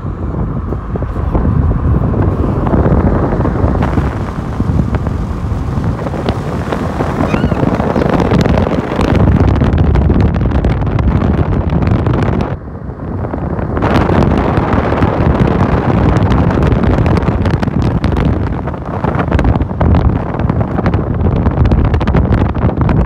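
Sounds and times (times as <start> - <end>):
road and engine noise: 0.0 - 23.0
wind buffeting microphone: 0.0 - 23.0.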